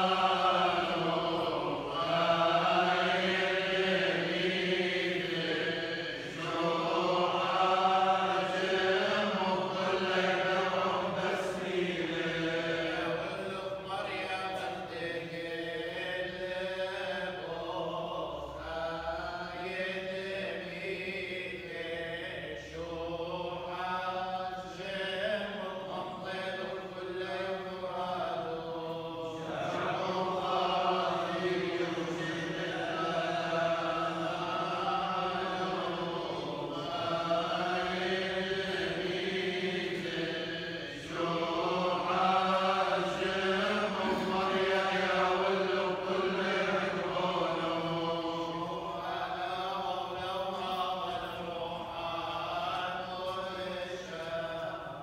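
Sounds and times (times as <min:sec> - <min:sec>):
men chanting prayers: 0:00.0 - 0:55.0.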